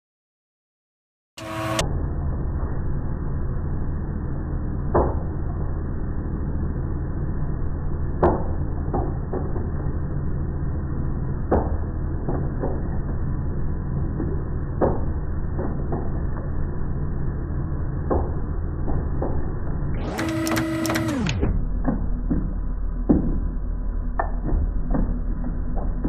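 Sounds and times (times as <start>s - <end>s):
low machine hum: 1.4s - 26.0s.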